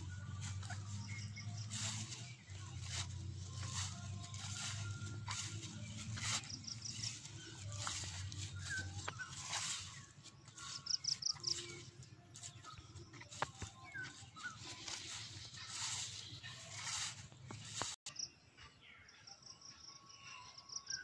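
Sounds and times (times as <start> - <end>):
lower bird chirps: 0.0 - 18.4.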